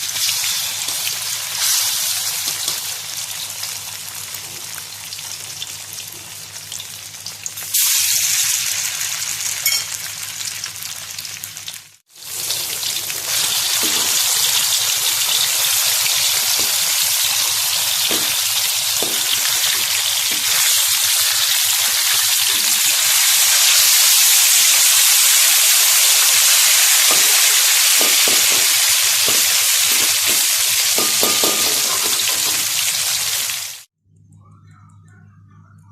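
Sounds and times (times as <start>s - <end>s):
fish sizzling in hot oil: 0.0s - 33.9s.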